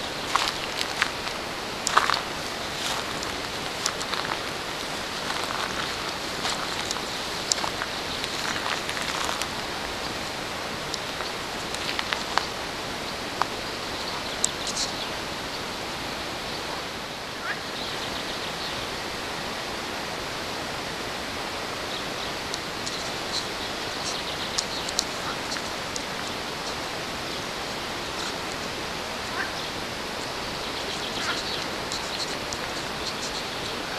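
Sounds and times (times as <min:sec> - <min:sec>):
flowing water: 0:00.0 - 0:33.9.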